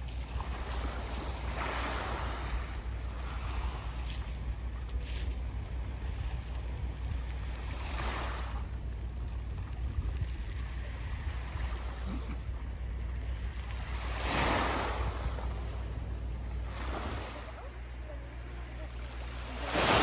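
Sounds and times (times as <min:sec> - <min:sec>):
waves washing onto pebbles: 0:00.0 - 0:12.5, 0:13.2 - 0:17.6, 0:19.2 - 0:20.0
wind rumble on microphone: 0:00.0 - 0:18.0.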